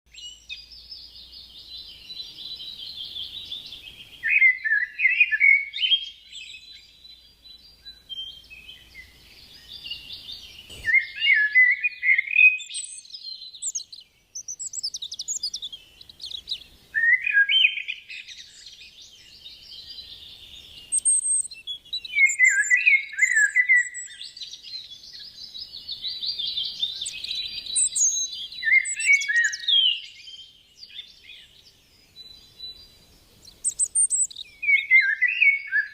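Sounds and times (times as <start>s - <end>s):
wild birds singing and chirping: 0.1s - 35.9s.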